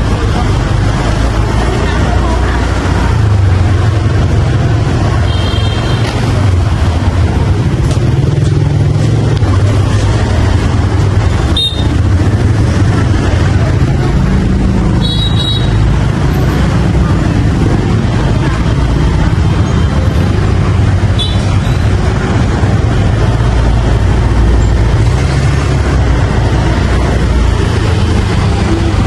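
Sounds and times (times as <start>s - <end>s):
wind and road noise: 0.0s - 29.0s
motorbike engine running: 2.8s - 29.0s.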